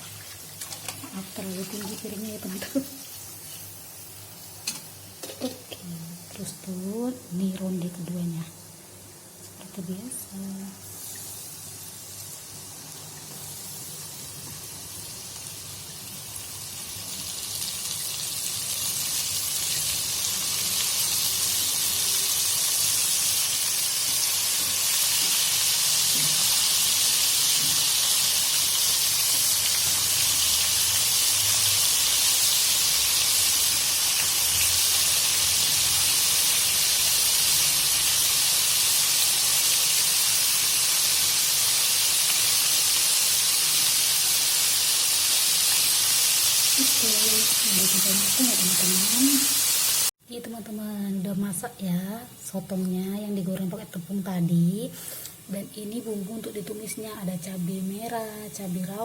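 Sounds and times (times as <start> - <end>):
squid deep-frying in hot oil: 0.0 - 8.8, 9.7 - 59.0.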